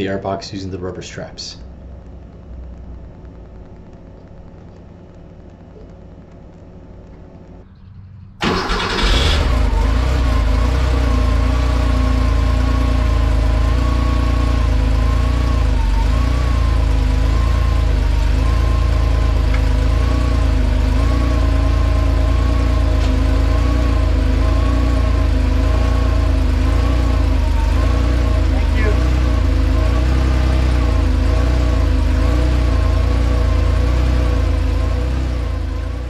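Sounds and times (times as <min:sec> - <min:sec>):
car engine starting and idling: 0:00.0 - 0:36.0
engine whine wavering in pitch: 0:00.0 - 0:36.0.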